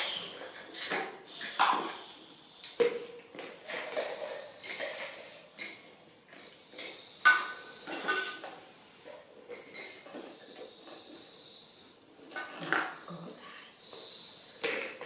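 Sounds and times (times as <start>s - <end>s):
plastic toys clattering on tiles: 0.0s - 11.5s, 12.2s - 15.0s.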